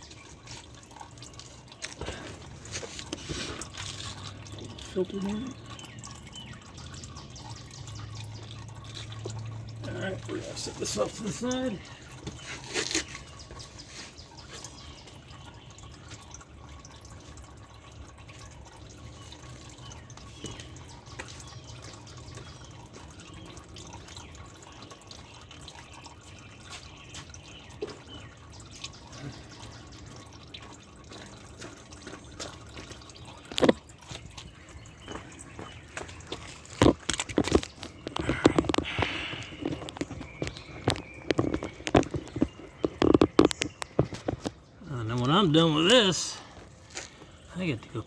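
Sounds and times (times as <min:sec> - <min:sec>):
oil dripping into a pan: 0:00.0 - 0:48.0.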